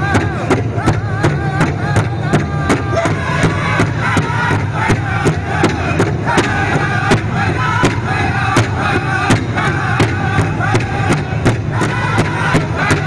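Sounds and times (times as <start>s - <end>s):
large drum beaten in unison: 0.0s - 13.0s
men singing together: 0.0s - 13.0s.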